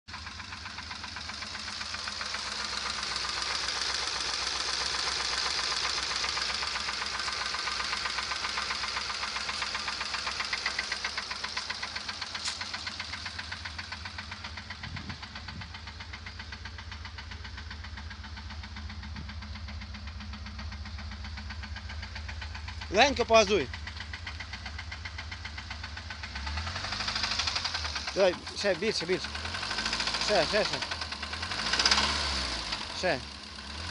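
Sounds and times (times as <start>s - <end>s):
car engine idling with knock: 0.1s - 33.9s.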